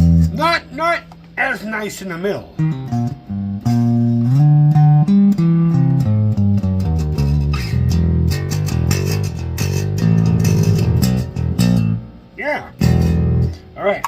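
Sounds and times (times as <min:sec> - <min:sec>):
electric bass guitar notes: 0:00.0 - 0:14.0.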